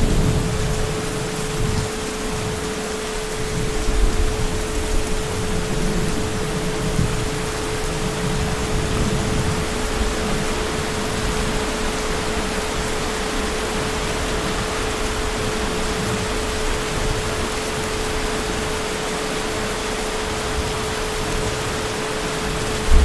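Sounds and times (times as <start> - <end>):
faint steady hum: 0.0 - 23.0
heavy rain falling: 0.0 - 23.0.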